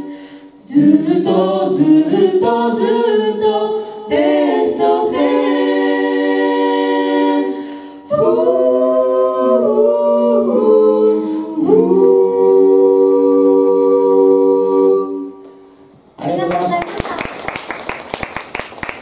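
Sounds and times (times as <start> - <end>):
a cappella group singing harmony: 0.0 - 16.0.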